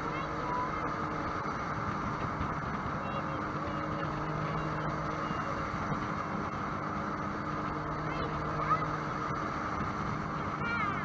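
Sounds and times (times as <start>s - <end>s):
jet boat engine drone: 0.0s - 11.0s
water rushing past hull: 0.0s - 11.0s.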